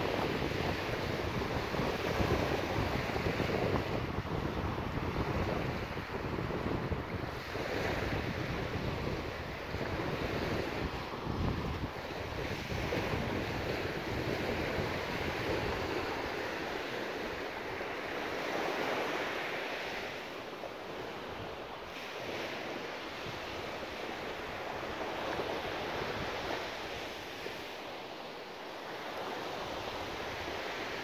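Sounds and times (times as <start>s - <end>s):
sea waves breaking on beach: 0.0s - 31.0s
wind rumble on microphone: 0.0s - 31.0s.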